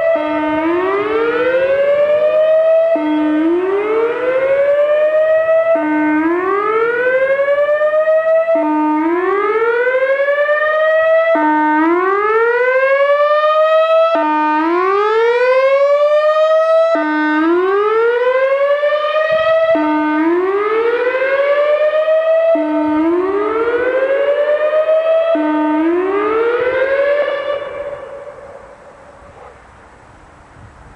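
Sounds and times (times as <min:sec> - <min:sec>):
siren whooping upward: 0:00.0 - 0:29.4.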